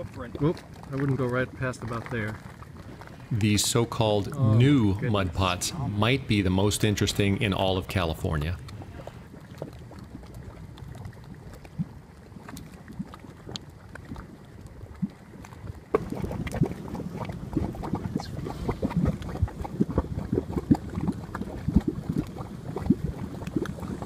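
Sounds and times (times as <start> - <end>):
mud pot bubbling: 0.0 - 24.0.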